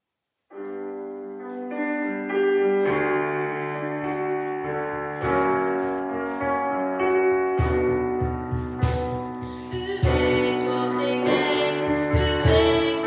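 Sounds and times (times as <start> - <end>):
piano chords over bass line: 1.0 - 13.0.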